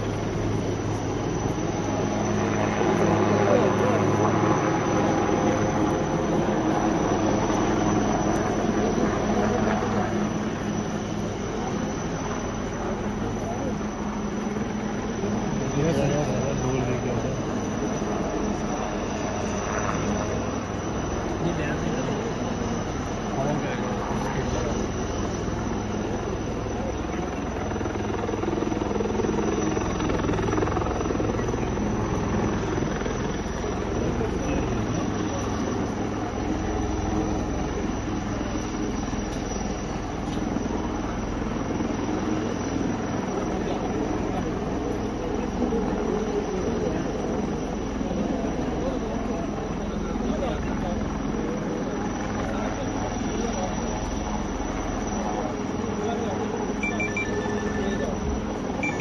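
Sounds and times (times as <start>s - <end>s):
helicopter engine drone: 0.0s - 59.0s.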